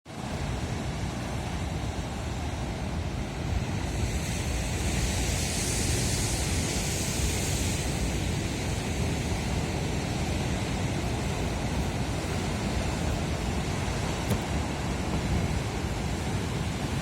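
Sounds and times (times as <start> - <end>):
sea waves breaking: 0.1 - 17.0
wind on microphone: 0.2 - 17.0.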